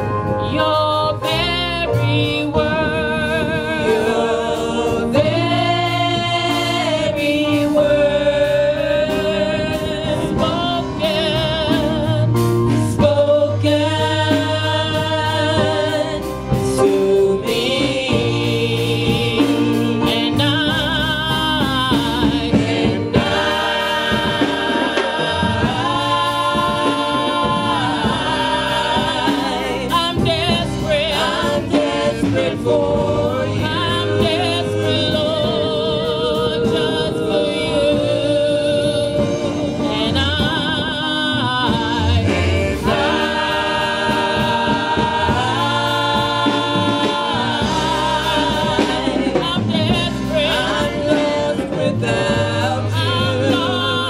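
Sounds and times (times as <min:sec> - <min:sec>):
instrumental accompaniment: 0:00.0 - 0:54.0
steady bass notes: 0:00.0 - 0:54.0
worship singing with vibrato: 0:00.0 - 0:54.0.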